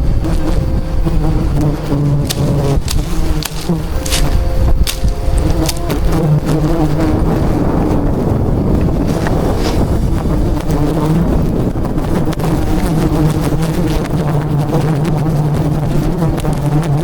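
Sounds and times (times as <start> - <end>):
bees buzzing: 0.0 - 17.0
wind rumble on microphone: 0.0 - 17.0.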